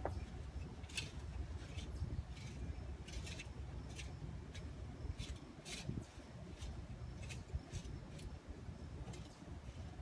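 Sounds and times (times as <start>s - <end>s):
rake scraping through dirt: 0.0s - 10.0s.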